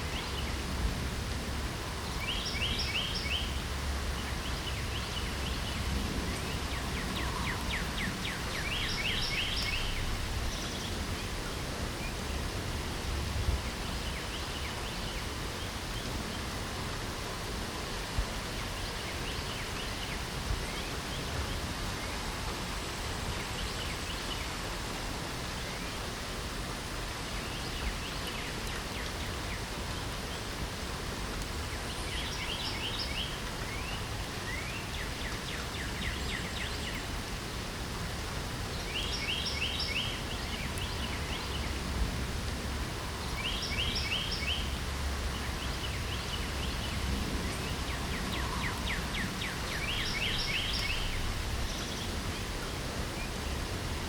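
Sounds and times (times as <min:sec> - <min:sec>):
songbird singing: 0:00.0 - 0:00.8, 0:01.6 - 0:26.3, 0:27.0 - 0:54.0
light rain falling: 0:00.0 - 0:54.0.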